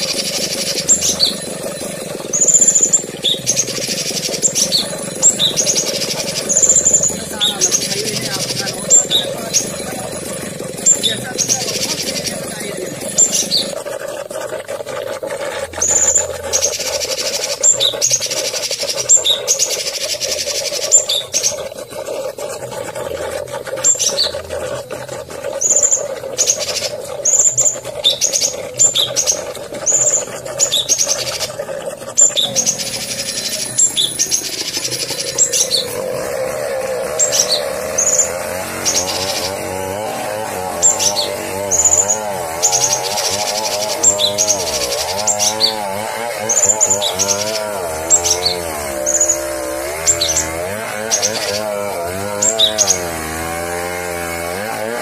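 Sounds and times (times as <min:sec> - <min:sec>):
fast warbling trill: 0:00.0 - 0:53.7.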